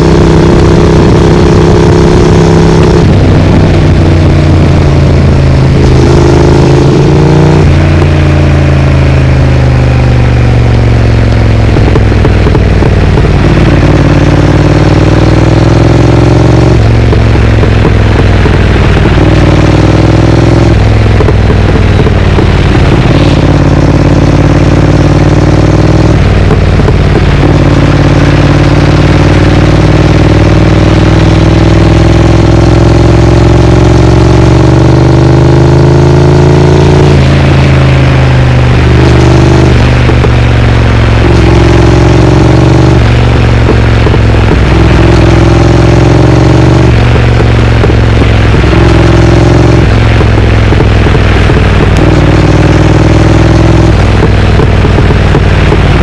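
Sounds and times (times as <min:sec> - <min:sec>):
motorcycle engine changing gears: 0:00.0 - 0:56.0.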